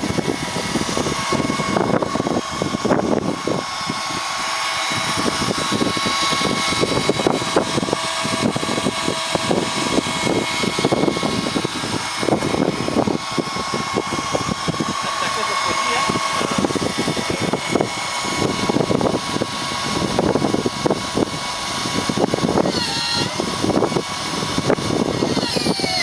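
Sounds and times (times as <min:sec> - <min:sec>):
excavator running with a whine: 0:00.0 - 0:26.0
wind buffeting microphone: 0:00.0 - 0:26.0.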